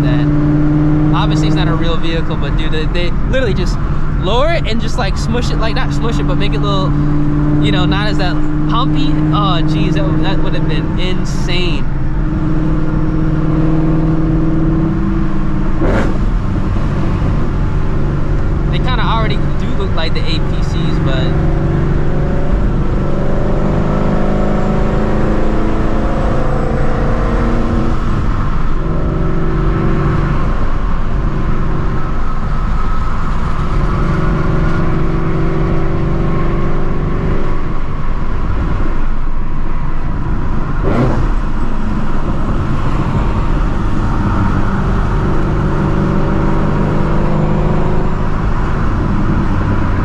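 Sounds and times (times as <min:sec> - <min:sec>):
car engine cruising: 0:00.0 - 0:50.0
road noise: 0:00.0 - 0:50.0.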